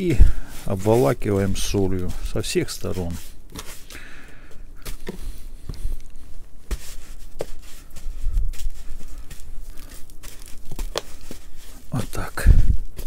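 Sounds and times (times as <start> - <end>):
coarse salt rustling and crunching: 0.0 - 13.0.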